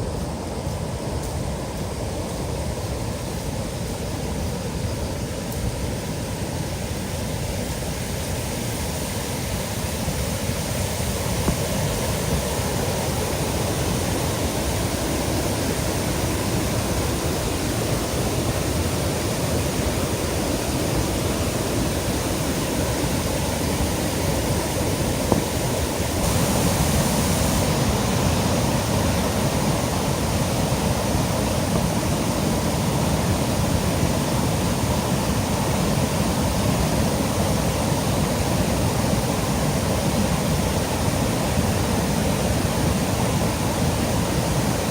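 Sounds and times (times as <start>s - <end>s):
flood water rushing: 0.0s - 44.9s.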